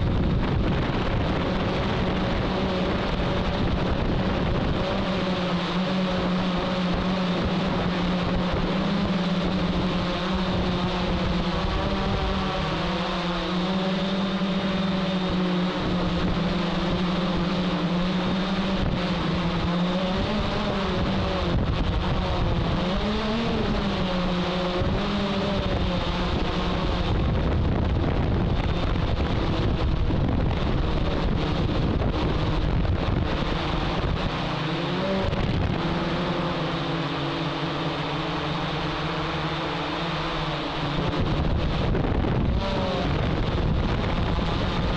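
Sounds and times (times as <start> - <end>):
drone motors and propellers humming: 0.0 - 44.9
wind rushing on microphone: 0.0 - 44.9.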